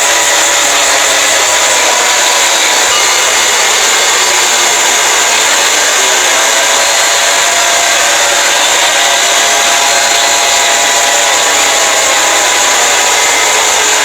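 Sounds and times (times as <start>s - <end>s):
faint steady tones: 0.0s - 14.0s
harsh alarm noise: 0.0s - 14.0s.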